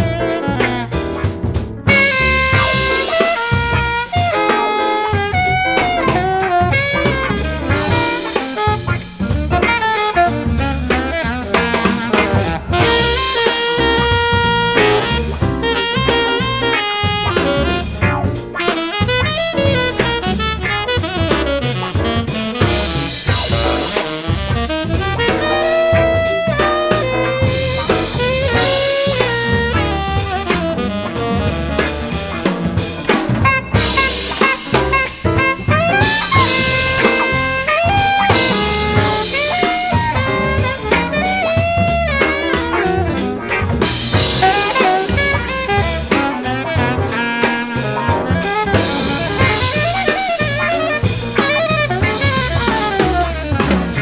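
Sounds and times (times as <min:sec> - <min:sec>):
drum kit beat: 0:00.0 - 0:54.0
saxophone and brass melody: 0:00.0 - 0:54.0.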